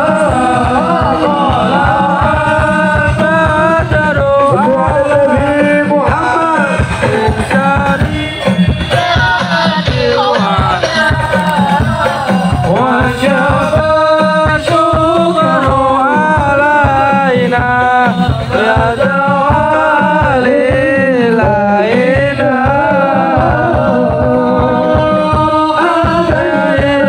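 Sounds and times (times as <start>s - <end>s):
men singing with pitch slides: 0.0s - 27.0s
steady drum beat: 0.0s - 27.0s.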